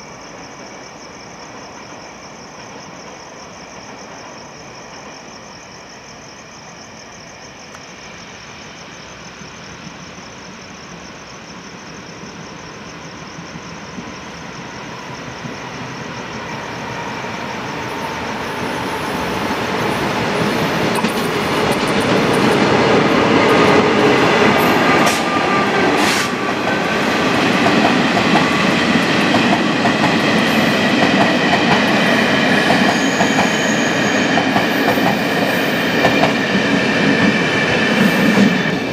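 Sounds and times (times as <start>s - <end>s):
train passing through station: 0.0s - 38.9s.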